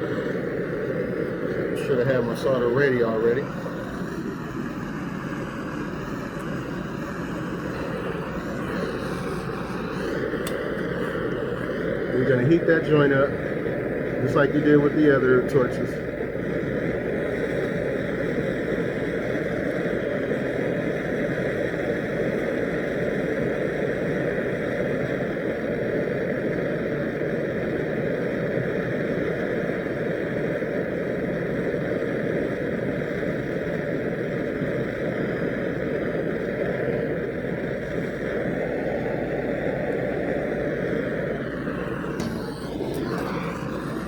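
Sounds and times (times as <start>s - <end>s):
torch flame hissing: 0.0s - 44.0s.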